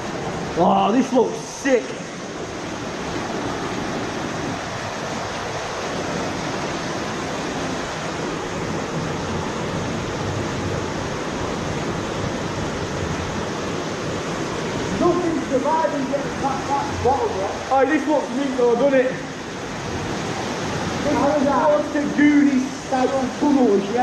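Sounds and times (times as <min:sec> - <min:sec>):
water rushing through tunnel: 0:00.0 - 0:24.0.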